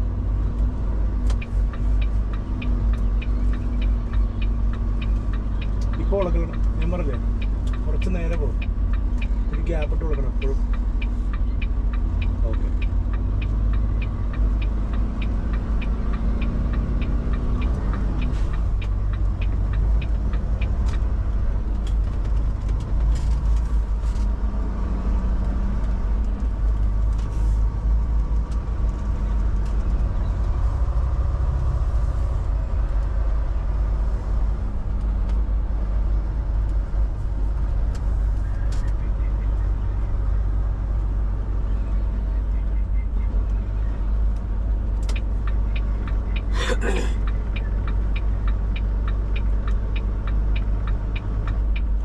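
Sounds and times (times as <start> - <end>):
diesel truck engine rumble: 0.0 - 52.0
light regular ticking: 0.5 - 34.2, 34.9 - 52.0.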